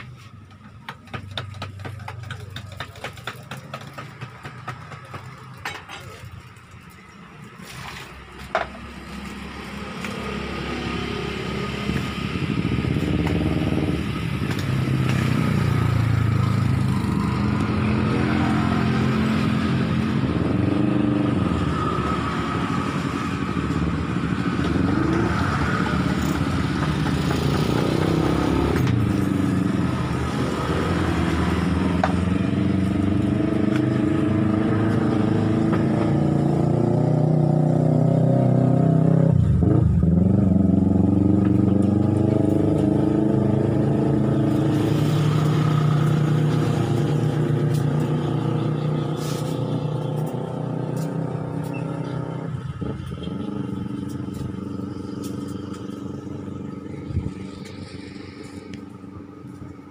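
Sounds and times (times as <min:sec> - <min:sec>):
passing vehicle engines: 0:00.0 - 0:59.9.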